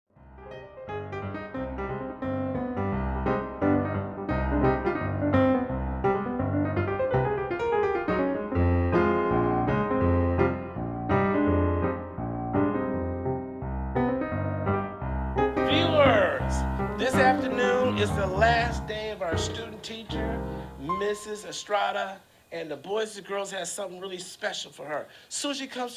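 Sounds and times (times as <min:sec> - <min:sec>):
piano background music: 0:00.1 - 0:21.9.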